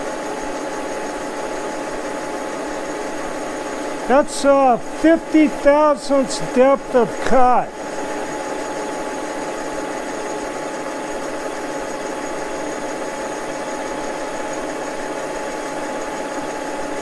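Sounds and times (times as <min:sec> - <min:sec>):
milling machine humming and whining: 0:00.0 - 0:17.0.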